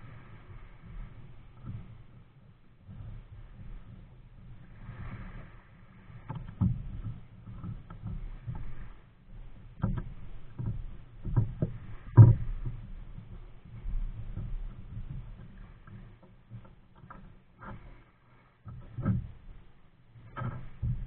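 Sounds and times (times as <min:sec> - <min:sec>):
paddle splashes and knocks: 0:00.0 - 0:21.0.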